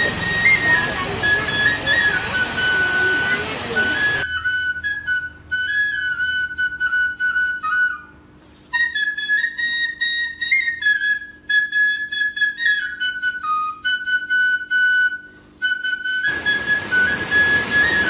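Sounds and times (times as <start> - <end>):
solo flute melody: 0.0 - 18.0.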